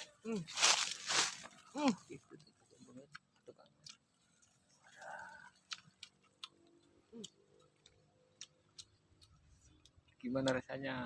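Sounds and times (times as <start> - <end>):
faint chewing with crunches: 0.0 - 11.0.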